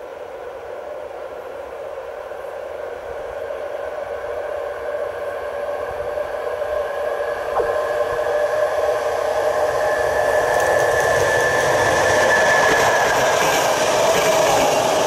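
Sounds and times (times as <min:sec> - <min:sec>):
electric train approaching: 0:00.0 - 0:15.0
rushing noise with whine: 0:00.0 - 0:15.0.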